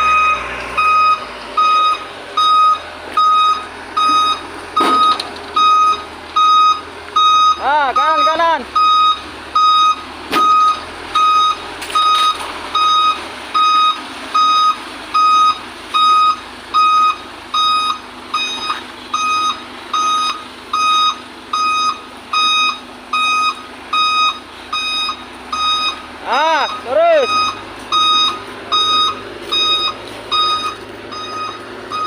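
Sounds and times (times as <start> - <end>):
truck reversing alarm beeping: 0.0 - 32.0.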